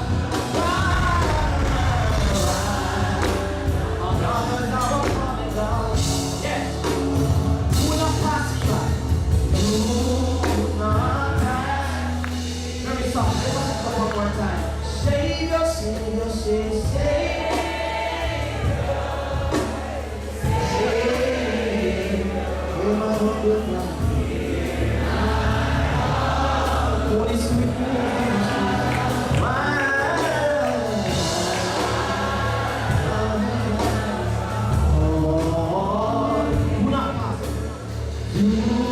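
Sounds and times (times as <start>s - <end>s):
person singing: 0.0s - 19.5s, 20.4s - 38.9s
gospel band playing: 0.0s - 38.9s
sustained bass notes: 0.0s - 38.9s.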